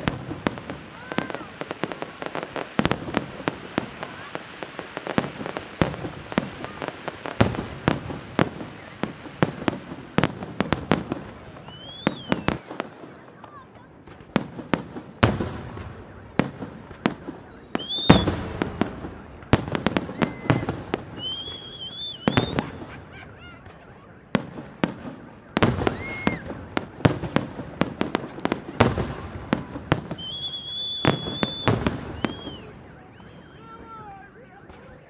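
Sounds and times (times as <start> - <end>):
fireworks bangs and crackles: 0.0 - 35.0
fireworks whistling: 0.0 - 35.0.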